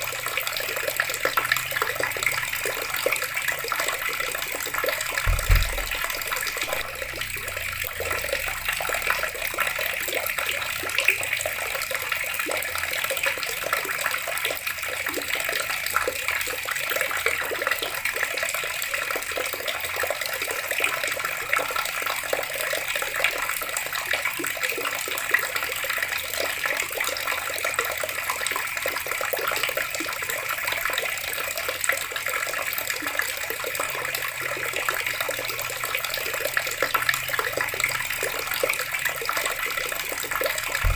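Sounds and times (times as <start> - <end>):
water running from a tap: 0.0 - 40.9.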